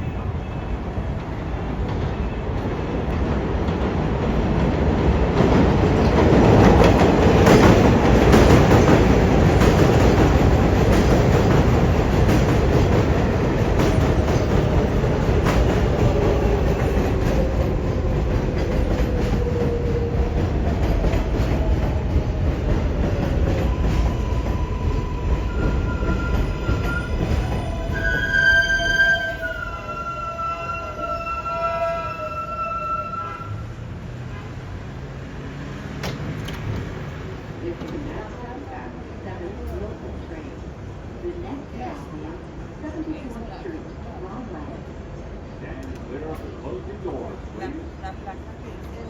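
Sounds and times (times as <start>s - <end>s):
falling whine of slowing train: 0.0s - 49.0s.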